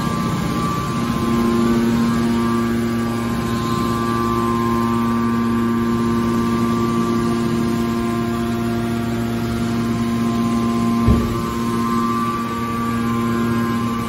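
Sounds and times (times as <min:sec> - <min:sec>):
hydraulic motor and pump humming: 0:00.0 - 0:14.0.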